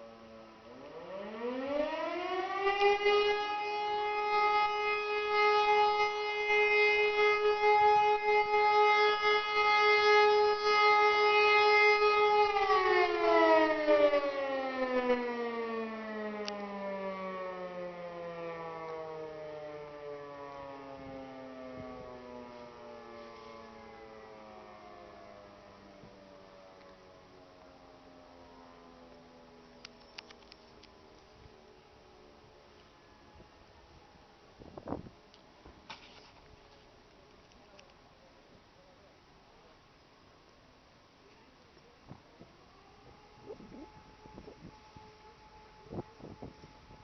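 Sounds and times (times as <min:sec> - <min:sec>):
electric motor siren wailing: 0:00.0 - 0:34.2, 0:42.3 - 0:47.0.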